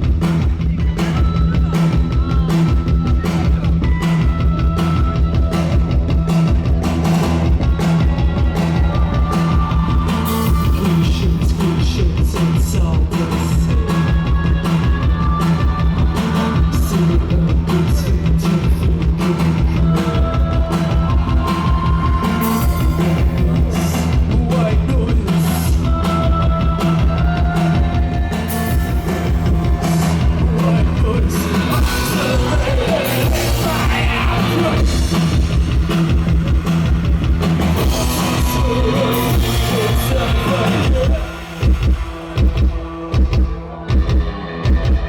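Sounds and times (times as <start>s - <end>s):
live rock band playing: 0.0s - 45.0s
person singing: 0.7s - 35.7s, 37.6s - 45.0s.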